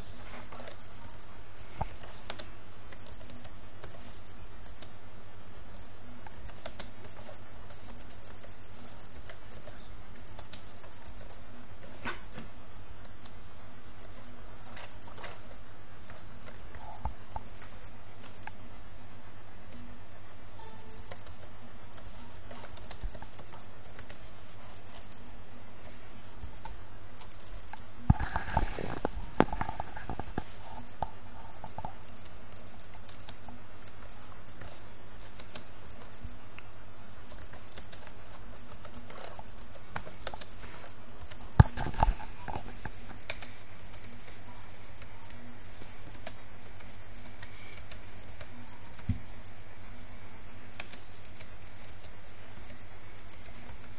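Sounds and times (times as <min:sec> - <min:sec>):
keyboard typing: 0:00.0 - 0:05.0, 0:05.6 - 0:12.4, 0:13.0 - 0:18.6, 0:19.7 - 0:36.4, 0:37.1 - 0:53.9
steady low hum: 0:00.0 - 0:53.9.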